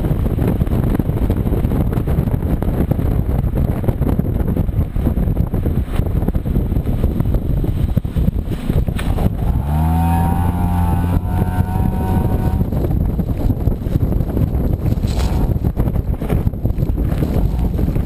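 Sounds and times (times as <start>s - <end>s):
car exhaust rumbling: 0.0s - 18.0s
wind buffeting microphone: 0.0s - 18.0s.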